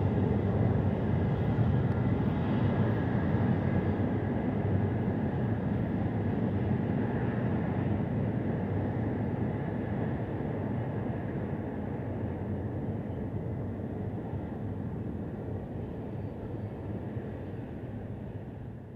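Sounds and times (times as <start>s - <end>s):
distant diesel locomotive drone: 0.0s - 18.9s.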